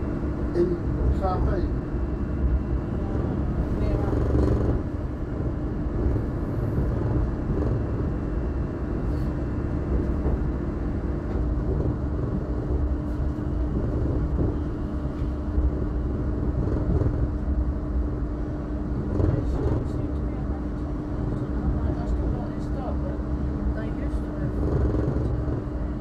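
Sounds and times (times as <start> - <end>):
constant low hum: 0.0 - 26.0
train wheels rumbling on rail: 0.0 - 26.0.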